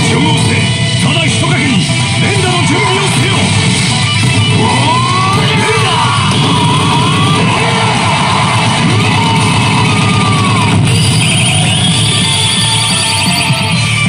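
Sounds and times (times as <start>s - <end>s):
hard rock music with electric guitar: 0.0s - 14.0s.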